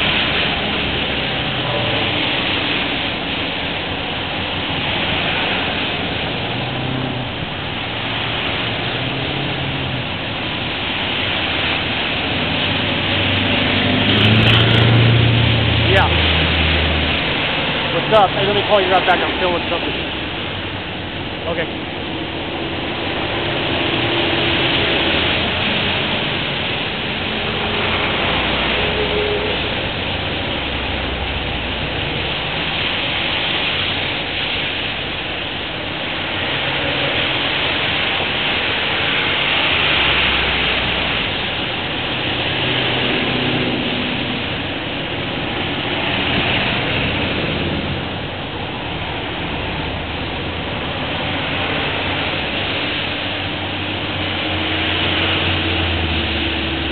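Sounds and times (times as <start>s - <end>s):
low engine hum: 0.0s - 56.9s
tyres hissing on wet road: 0.0s - 56.9s.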